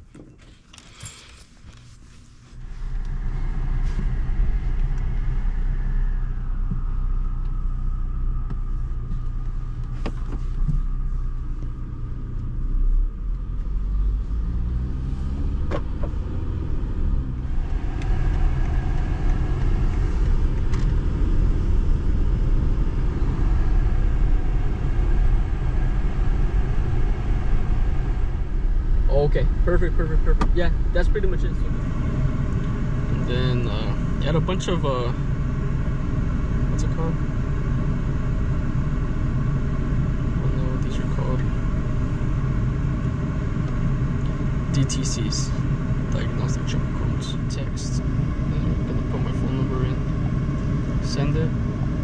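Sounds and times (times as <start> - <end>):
engine and road rumble in car: 0.0 - 52.0.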